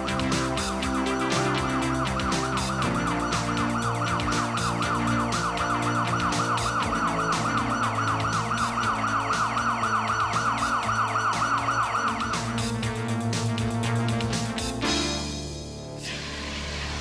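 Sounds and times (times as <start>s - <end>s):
electronic siren: 0.0s - 13.8s
background music with beat: 0.0s - 17.0s.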